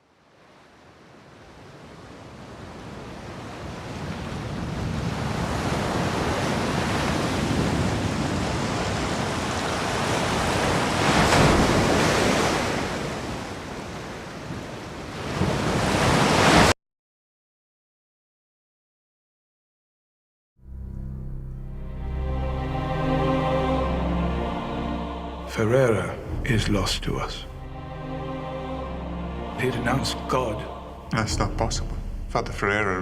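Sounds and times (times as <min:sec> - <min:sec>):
sea waves breaking: 0:00.2 - 0:16.7, 0:22.4 - 0:33.0.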